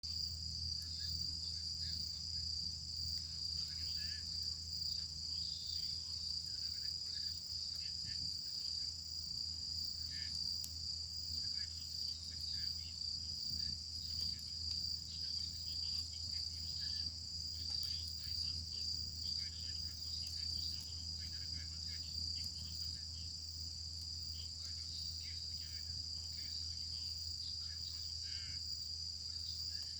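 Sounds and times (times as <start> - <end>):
campfire crackles: 0.0 - 29.9
crickets chirring: 0.1 - 29.9.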